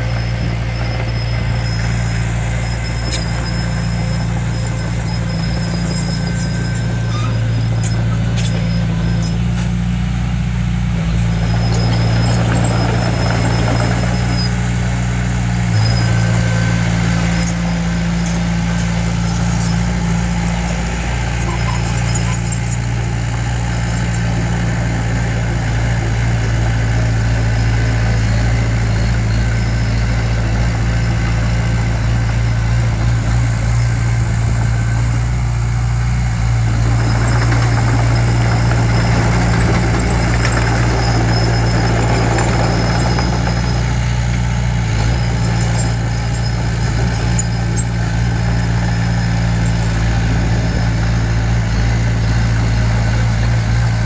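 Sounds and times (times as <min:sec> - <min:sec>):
heavy machine diesel engine humming: 0:00.0 - 0:54.0.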